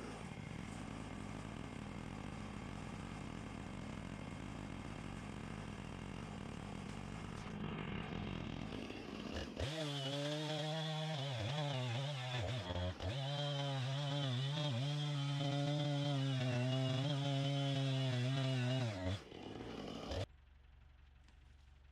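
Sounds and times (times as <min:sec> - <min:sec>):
chainsaw revving: 0:00.0 - 0:20.3.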